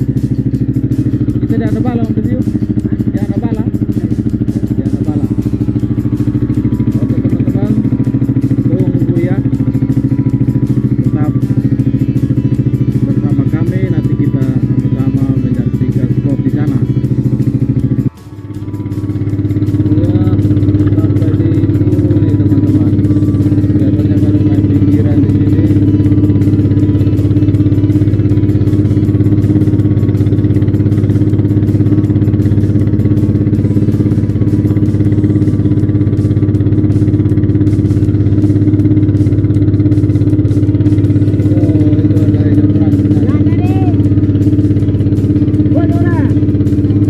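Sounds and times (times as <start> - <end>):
motorboat engine droning: 0.0 - 47.0.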